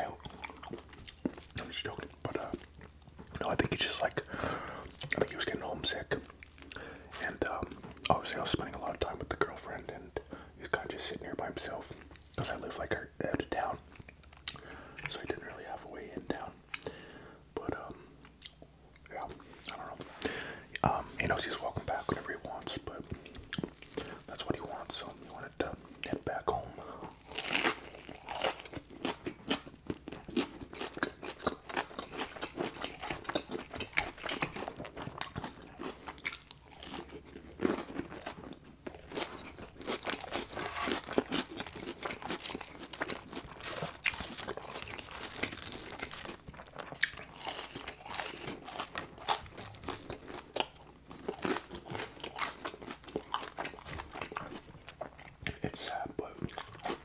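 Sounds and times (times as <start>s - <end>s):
crunching and chewing fried food: 0.0s - 17.2s, 17.8s - 57.0s.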